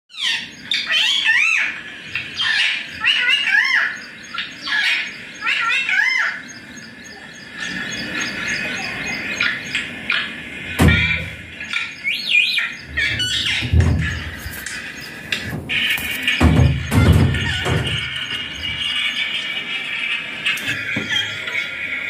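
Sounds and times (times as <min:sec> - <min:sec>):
parakeet squawking: 0:00.1 - 0:19.6, 0:20.7 - 0:21.9
parakeet soft chatter: 0:00.2 - 0:22.0.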